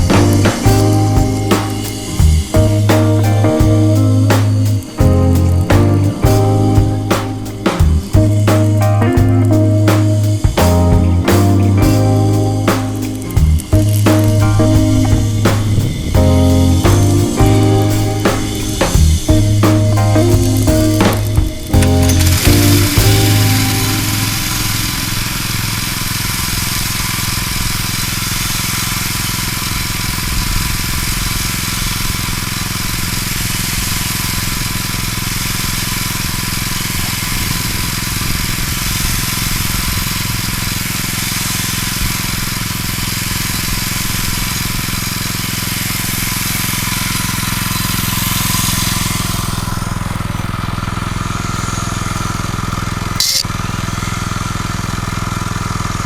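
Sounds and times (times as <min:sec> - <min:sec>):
rushing air: 0:00.0 - 0:52.1
engine-like drone: 0:00.0 - 0:56.0.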